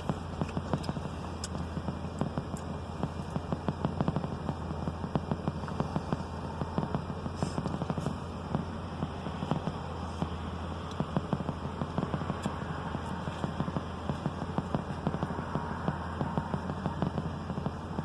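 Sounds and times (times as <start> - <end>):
car humming: 0.0 - 18.0
irregular clicks and crackles: 0.0 - 18.0.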